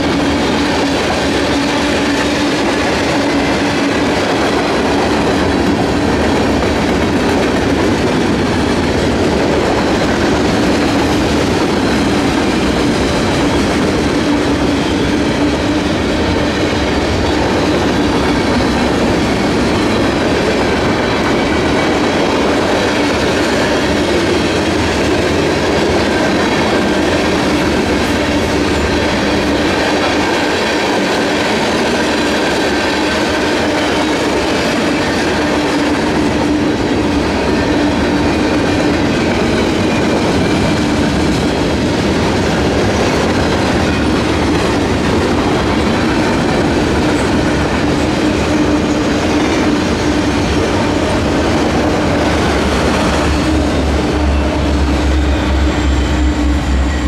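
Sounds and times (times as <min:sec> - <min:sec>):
freight train cars rolling past: 0:00.0 - 0:57.0.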